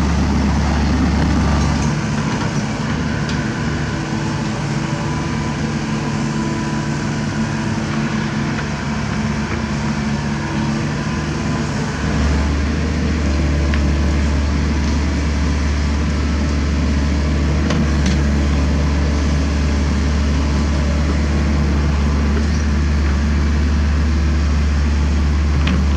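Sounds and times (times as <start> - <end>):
excavator diesel engine under load: 0.0 - 25.9.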